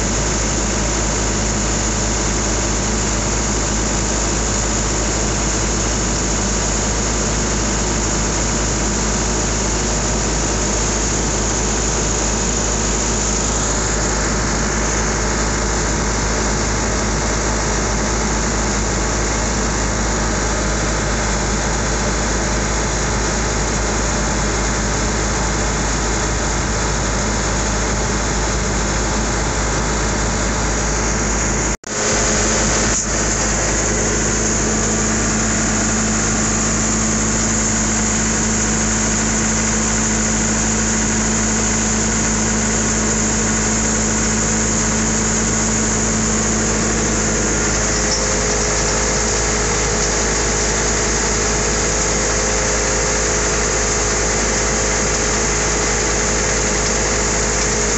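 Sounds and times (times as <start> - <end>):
farm machinery humming: 0.0 - 57.9.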